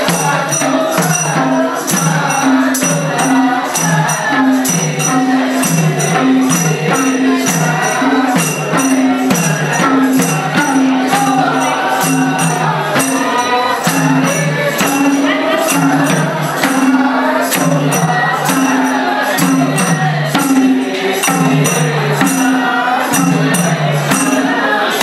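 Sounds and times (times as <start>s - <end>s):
hand drum beating: 0.0s - 25.0s
men singing: 0.0s - 25.0s.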